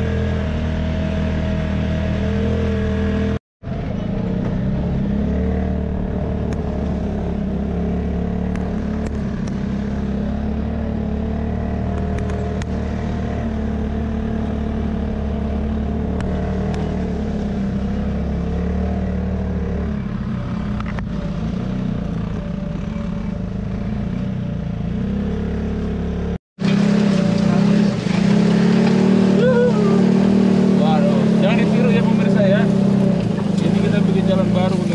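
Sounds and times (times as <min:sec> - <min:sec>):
vehicle engine running at low speed: 0:00.0 - 0:34.9.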